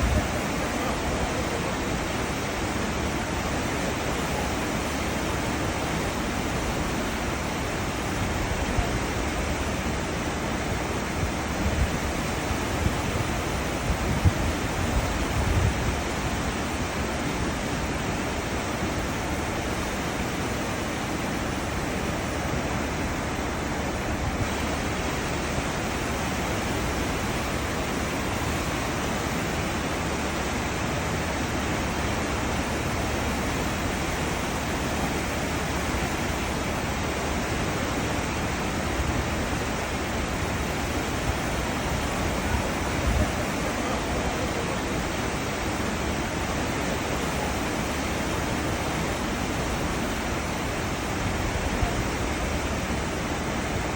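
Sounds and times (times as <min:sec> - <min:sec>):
churned water rushing along hull: 0:00.0 - 0:53.9.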